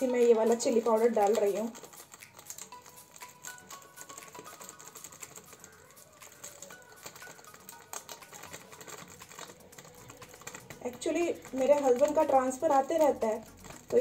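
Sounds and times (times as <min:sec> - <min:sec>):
powder pouring ticks: 0:00.0 - 0:14.0
plastic packet crinkling: 0:00.1 - 0:14.0.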